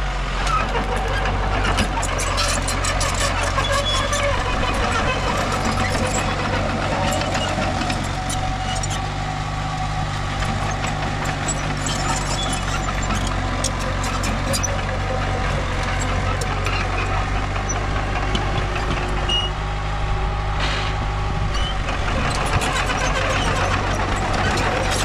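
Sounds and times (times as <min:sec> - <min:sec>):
small bulldozer engine running: 0:00.0 - 0:25.0.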